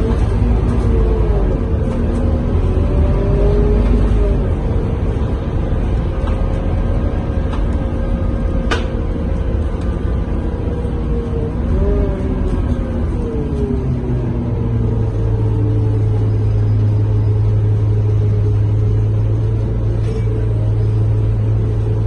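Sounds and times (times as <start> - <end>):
bus engine and road rumble: 0.0 - 22.0
drivetrain whine: 0.0 - 22.0.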